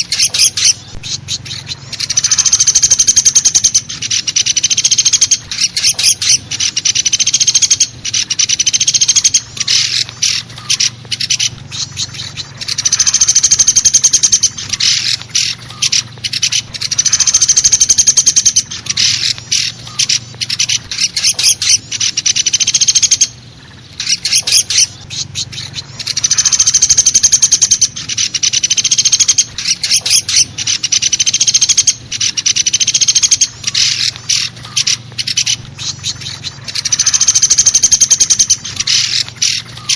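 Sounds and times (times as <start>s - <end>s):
low steady hum: 0.0s - 39.9s
woodpecker rattling trills: 0.0s - 39.9s.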